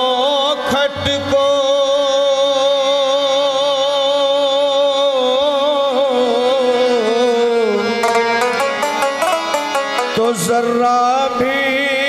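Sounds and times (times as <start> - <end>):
man singing devotional song: 0.0 - 8.1, 9.5 - 12.0.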